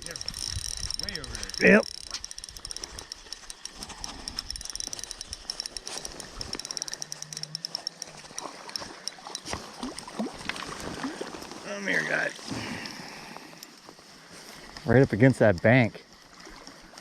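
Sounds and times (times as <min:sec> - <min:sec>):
river water: 0:00.0 - 0:17.0.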